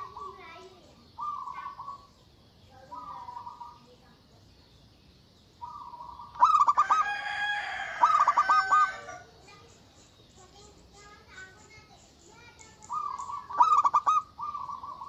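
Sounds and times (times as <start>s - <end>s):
dove cooing: 0.0s - 2.2s, 2.8s - 4.2s, 5.6s - 9.7s, 10.4s - 15.0s.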